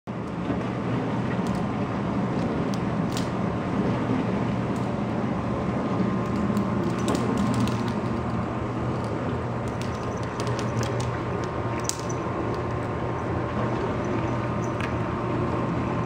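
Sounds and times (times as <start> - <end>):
steady low hum: 0.1 - 16.0.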